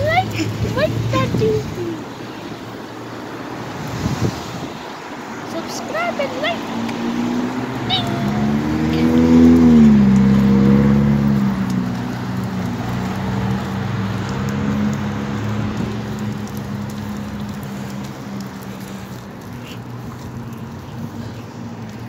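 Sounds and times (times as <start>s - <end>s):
traffic hum with tyre hiss: 0.0s - 22.0s
vehicle passing by: 0.0s - 22.0s.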